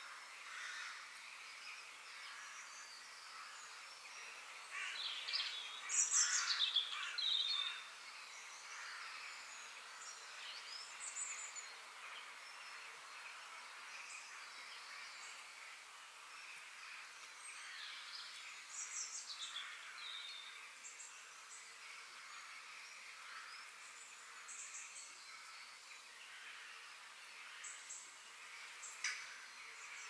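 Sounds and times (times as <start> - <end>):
forest birds singing: 0.0 - 30.0.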